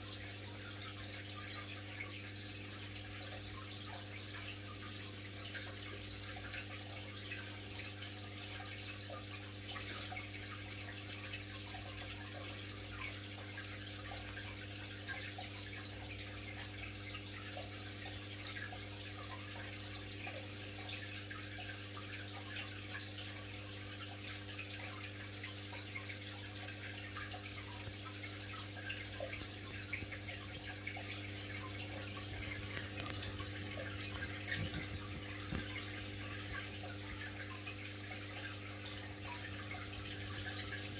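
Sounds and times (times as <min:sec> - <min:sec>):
aquarium water trickling and bubbling: 0:00.0 - 0:40.9
low electrical hum: 0:00.0 - 0:40.9.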